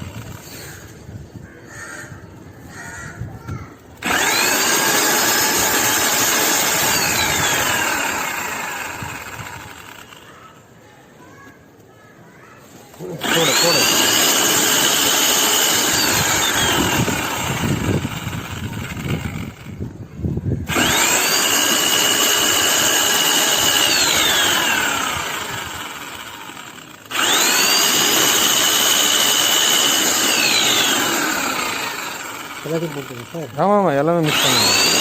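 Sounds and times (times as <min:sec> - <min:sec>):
drill mixer motor whining: 0:00.0 - 0:01.0, 0:04.0 - 0:10.5, 0:12.9 - 0:35.0.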